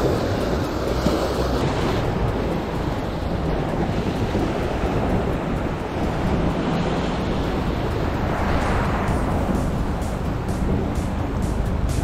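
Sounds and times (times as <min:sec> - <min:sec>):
waves splashing against rocks: 0:00.0 - 0:11.9
wind buffeting microphone: 0:00.0 - 0:12.0.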